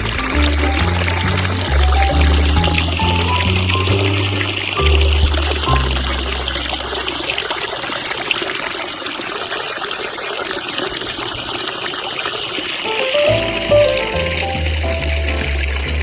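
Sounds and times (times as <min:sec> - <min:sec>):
water pouring into a bath: 0:00.0 - 0:16.0.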